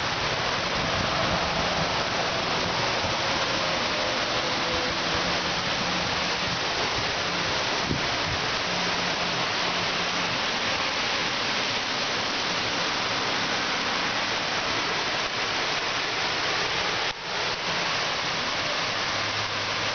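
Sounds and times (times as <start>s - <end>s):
heavy rain on pavement: 0.0s - 19.9s.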